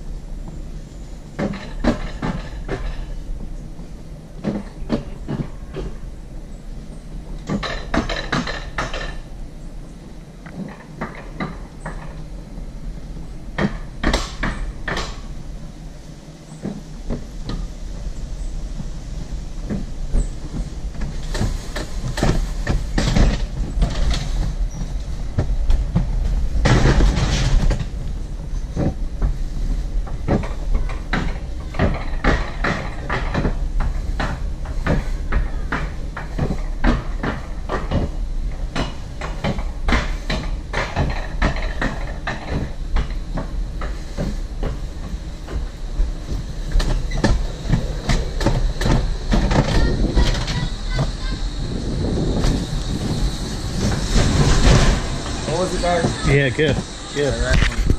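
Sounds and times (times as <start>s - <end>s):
clatter at rail joints: 0.0s - 57.9s
wheels rumbling on steel rails: 0.0s - 57.9s.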